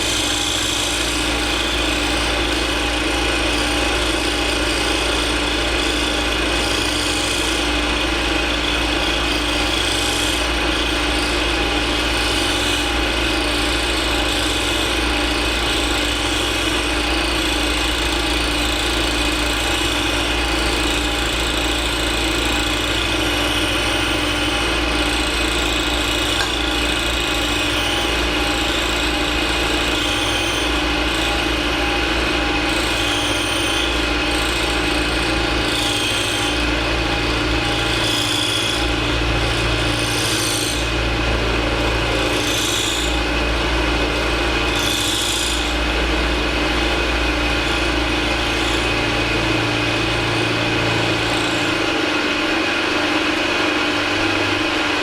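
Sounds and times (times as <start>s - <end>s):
machine tool motor hum: 0.0s - 55.0s.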